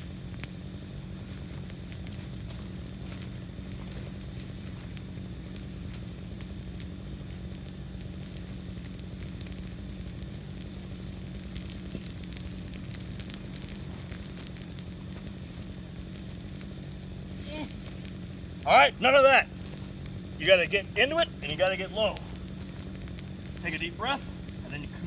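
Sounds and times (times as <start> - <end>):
burning branches crackling: 0.0 - 25.0
steady low hum: 0.0 - 25.0.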